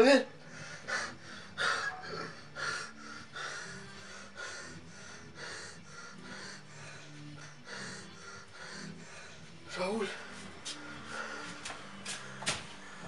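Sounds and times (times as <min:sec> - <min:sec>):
man breathing heavily: 0:00.4 - 0:13.0.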